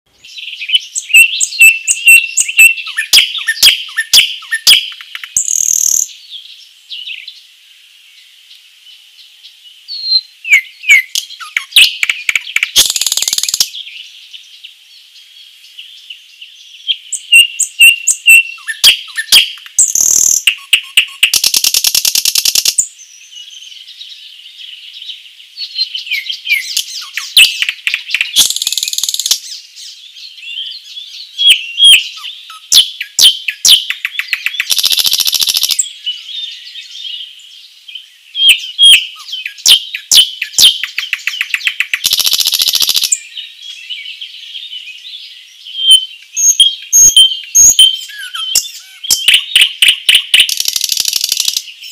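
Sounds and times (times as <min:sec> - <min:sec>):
nightingale singing: 0:00.1 - 0:51.9.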